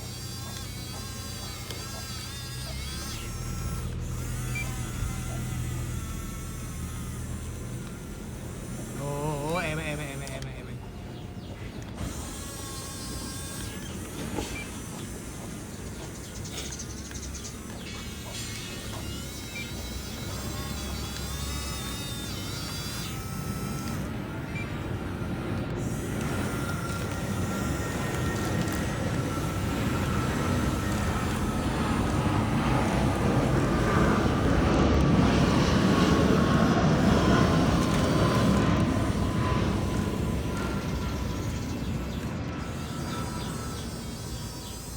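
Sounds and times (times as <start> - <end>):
small electric motors whining: 0.0 - 44.9.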